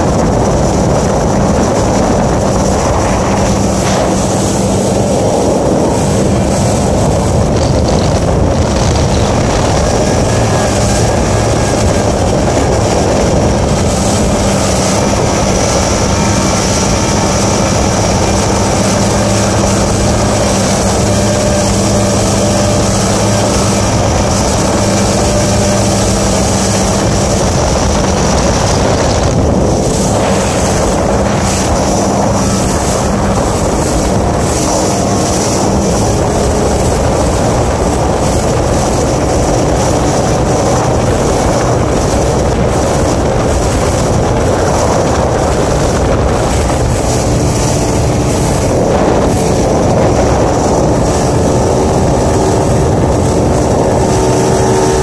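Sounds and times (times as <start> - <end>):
outboard motor running: 0.0 - 55.0
water rushing off hull: 0.0 - 55.0
wind buffeting microphone: 0.0 - 55.0.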